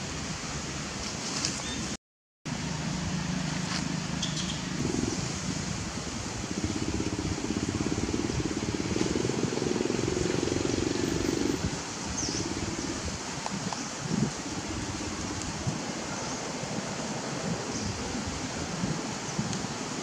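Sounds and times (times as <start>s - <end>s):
outdoor hiss: 0.0s - 20.0s.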